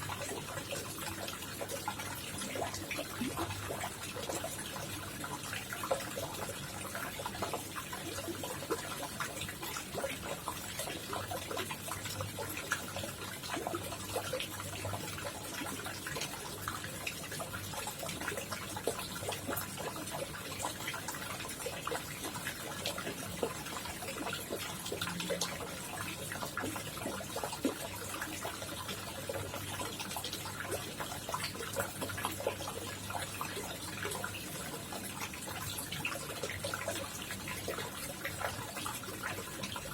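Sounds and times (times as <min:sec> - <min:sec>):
pond water trickling and splashing: 0:00.0 - 0:39.9.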